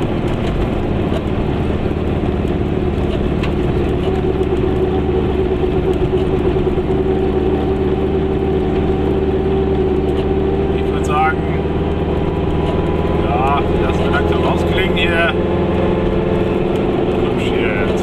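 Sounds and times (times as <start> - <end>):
two-stroke car engine running: 0.0 - 18.0
tyre and road noise: 0.0 - 18.0.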